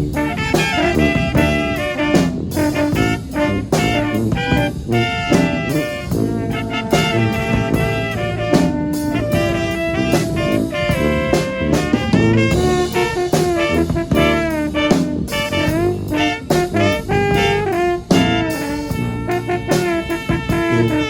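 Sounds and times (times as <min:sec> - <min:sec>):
brass band playing: 0:00.0 - 0:21.0.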